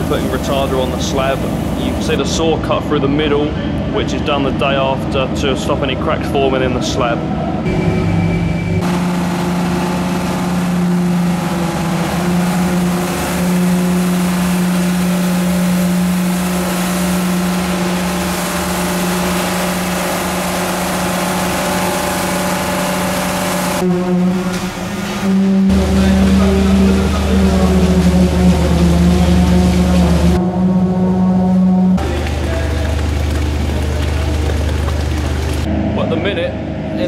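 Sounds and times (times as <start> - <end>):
construction machinery droning: 0.0 - 37.0.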